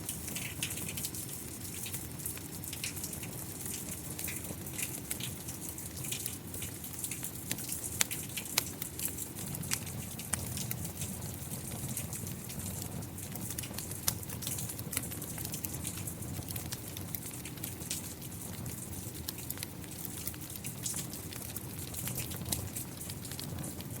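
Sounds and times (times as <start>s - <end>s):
rain pattering: 0.0s - 24.0s
wood fire crackling: 0.0s - 24.0s.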